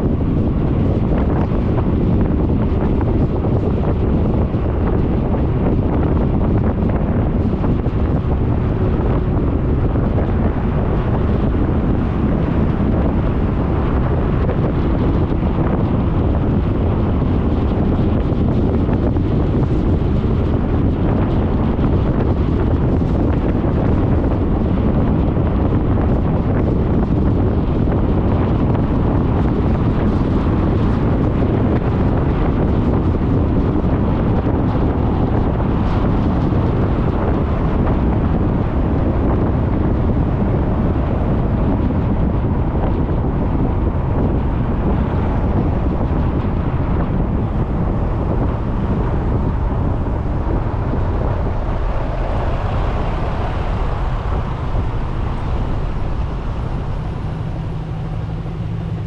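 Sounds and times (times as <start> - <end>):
road noise: 0.0 - 59.0
wind buffeting microphone: 0.0 - 59.0.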